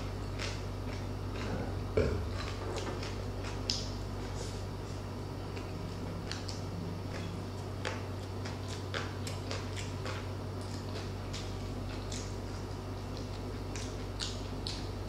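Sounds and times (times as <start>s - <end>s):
chewing crunchy food: 0.0s - 15.0s
low hum: 0.0s - 15.0s.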